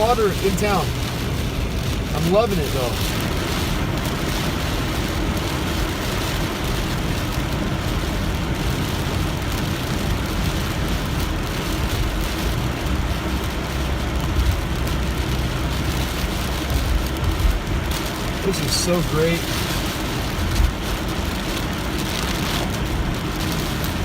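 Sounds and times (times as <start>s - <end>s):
car engine and road rumble: 0.0s - 24.0s
heavy rain: 0.0s - 24.0s
tyre noise on wet road: 0.0s - 24.0s.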